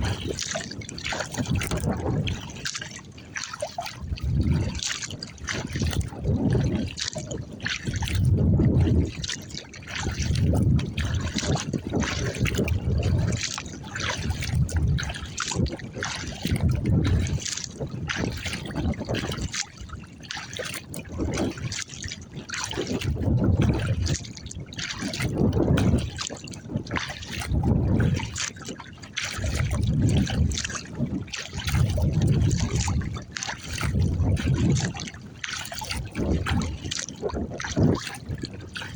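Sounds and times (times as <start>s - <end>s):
paddle splashing water: 0.0s - 38.9s.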